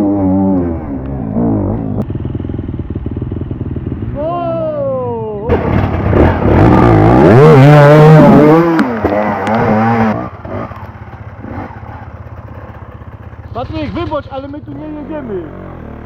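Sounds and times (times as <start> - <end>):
dirt bike engine revving: 0.0 - 4.2, 5.5 - 16.0.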